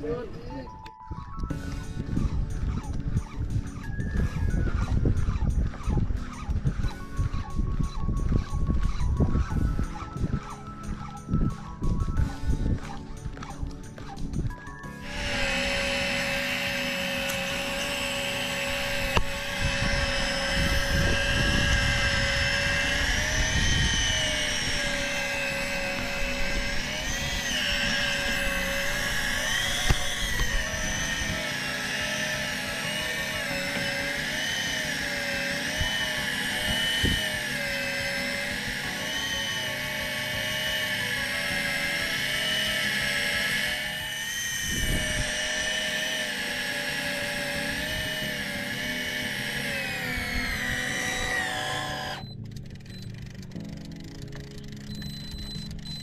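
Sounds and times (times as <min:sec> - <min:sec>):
fishing reel motor whine: 0:00.0 - 0:56.0.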